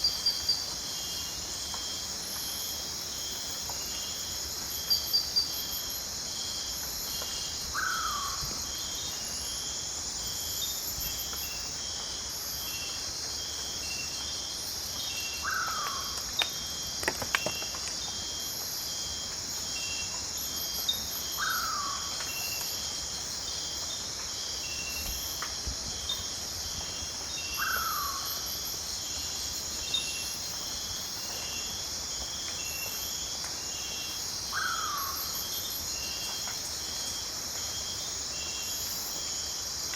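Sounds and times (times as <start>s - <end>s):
insect chorus buzzing and chirping: 0.0s - 39.9s.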